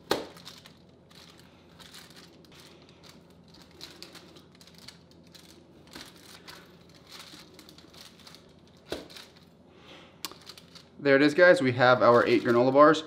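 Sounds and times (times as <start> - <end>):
paper crinkling: 0.1 - 9.6, 10.3 - 11.0, 11.8 - 13.0.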